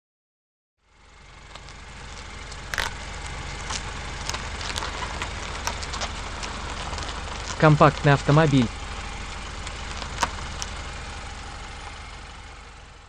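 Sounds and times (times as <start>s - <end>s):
car engine idling: 0.8s - 13.0s.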